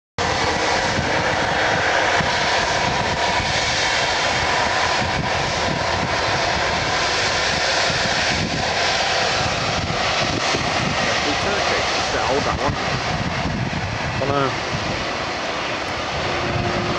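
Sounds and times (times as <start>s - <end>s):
faint jet engine whine: 0.2s - 16.9s
jet engine roar: 0.2s - 16.9s.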